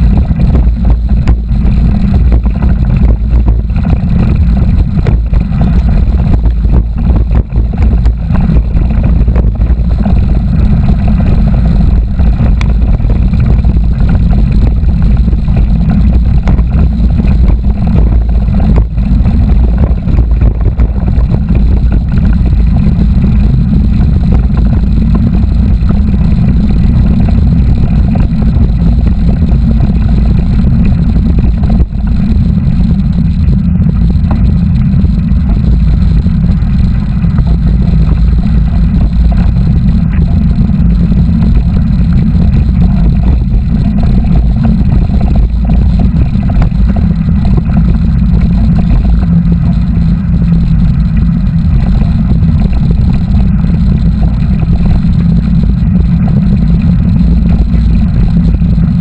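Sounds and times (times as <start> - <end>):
mountain bike riding noise: 0.0 - 59.0
wind rumble on microphone: 0.0 - 59.0.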